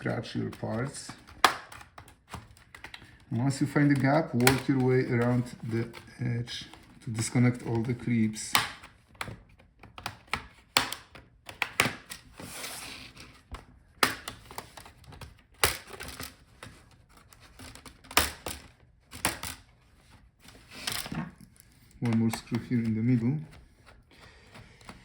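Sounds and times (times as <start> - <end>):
plastic scraping on plastic: 0.0 - 25.0.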